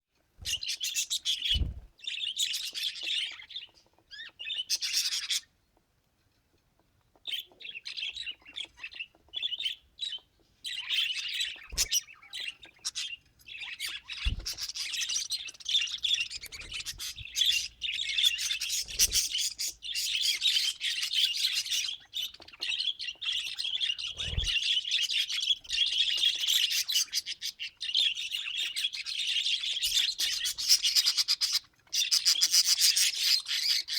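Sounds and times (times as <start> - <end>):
budgerigars chattering and warbling: 0.4 - 5.6, 6.8 - 33.9.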